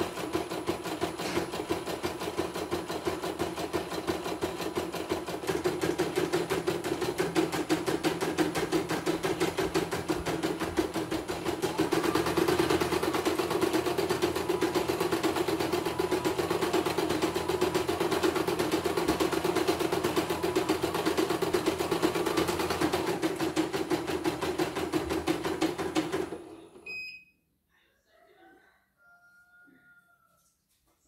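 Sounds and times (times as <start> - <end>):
embroidery machine stitching: 0.0 - 26.8.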